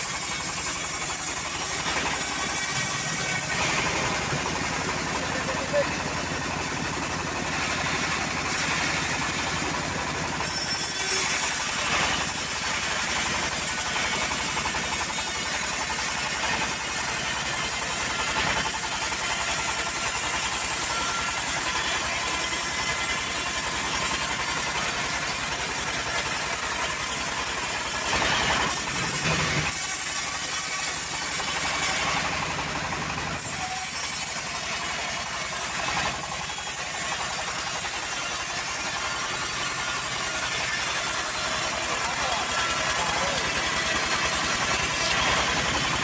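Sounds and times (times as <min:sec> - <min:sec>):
bandsaw mill cutting log: 0:00.0 - 0:46.0.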